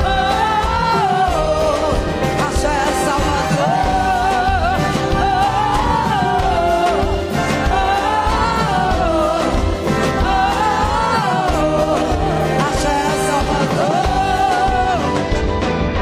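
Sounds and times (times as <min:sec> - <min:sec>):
music with singing: 0:00.0 - 0:16.0.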